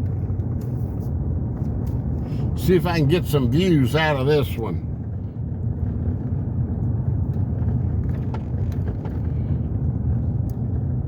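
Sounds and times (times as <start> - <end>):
engine and tyre hum: 0.0 - 11.0.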